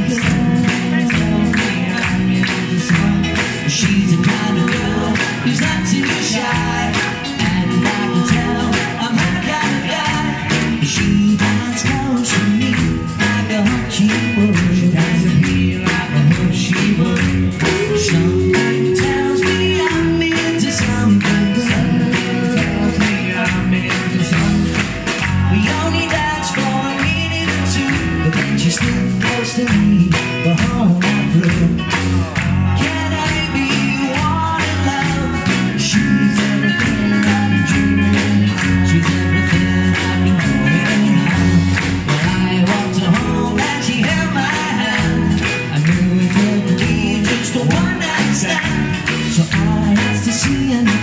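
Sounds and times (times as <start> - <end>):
beat band playing: 0.0 - 51.0.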